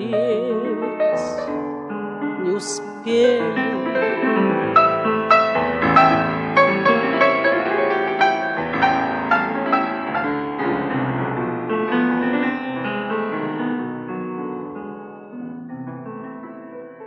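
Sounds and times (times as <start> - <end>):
solo piano piece: 0.0 - 17.0.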